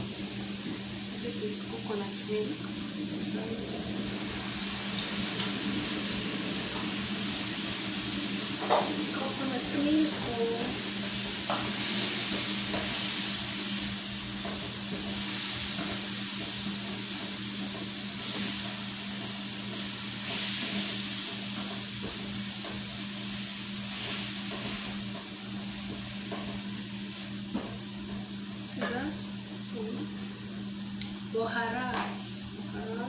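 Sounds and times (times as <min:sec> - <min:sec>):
sauce sizzling in a pan: 0:00.0 - 0:33.0.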